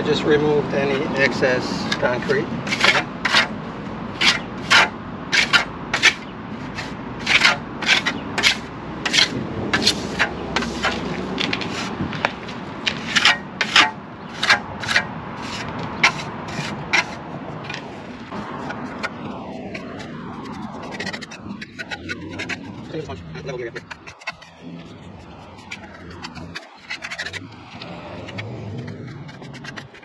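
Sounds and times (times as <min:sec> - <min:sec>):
steel trowel scraping concrete: 0:01.8 - 0:03.6, 0:04.2 - 0:12.0, 0:12.9 - 0:30.0.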